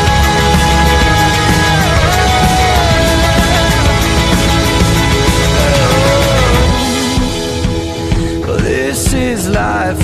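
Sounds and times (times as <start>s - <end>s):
instrumental pop-rock music: 0.0s - 10.0s.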